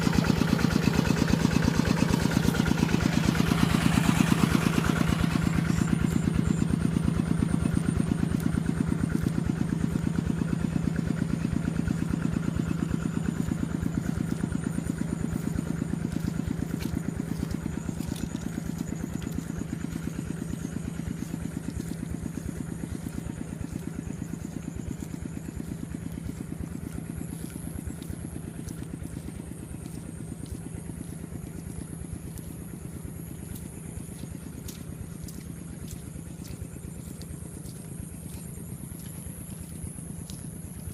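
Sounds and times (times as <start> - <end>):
small engine chugging: 0.0 - 40.9.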